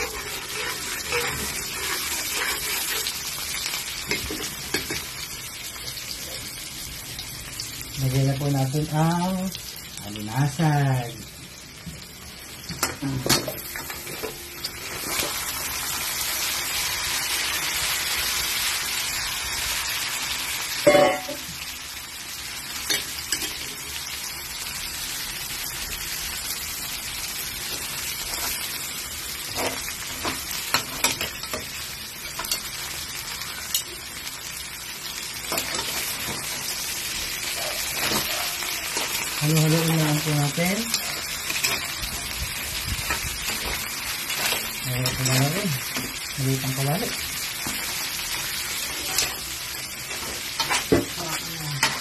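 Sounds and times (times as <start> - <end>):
crabs sizzling in oil: 0.0 - 52.0.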